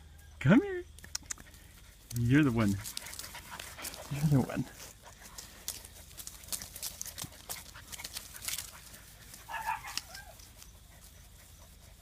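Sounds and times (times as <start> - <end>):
light clicks and scratches: 1.0 - 12.0.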